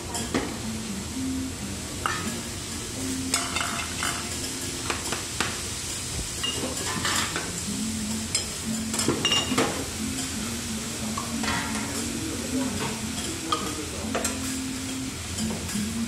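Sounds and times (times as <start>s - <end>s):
food sizzling on griddle: 0.0s - 16.0s.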